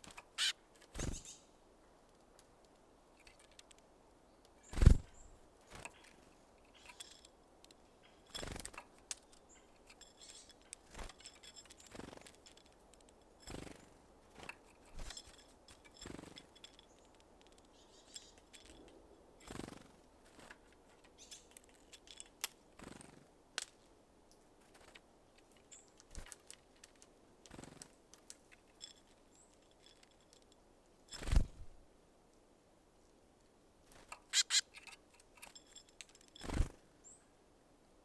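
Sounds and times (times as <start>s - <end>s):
birds tapping and pecking seeds: 0.0s - 31.6s, 33.9s - 36.8s.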